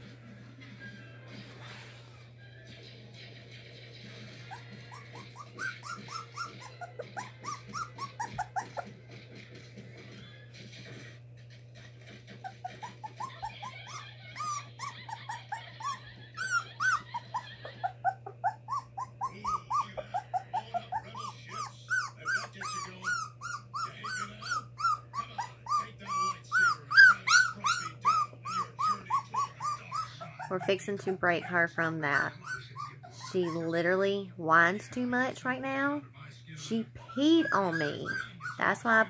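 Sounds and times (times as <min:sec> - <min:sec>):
puppy whining: 0:00.0 - 0:34.2, 0:36.6 - 0:39.0.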